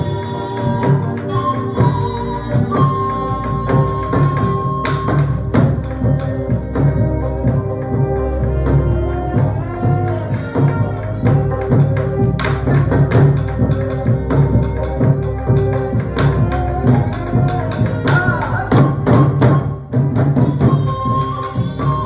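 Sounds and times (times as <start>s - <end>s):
sustained melodic lines: 0.0s - 19.9s
drums and percussion: 0.0s - 22.0s
high held wind tone: 0.0s - 22.0s.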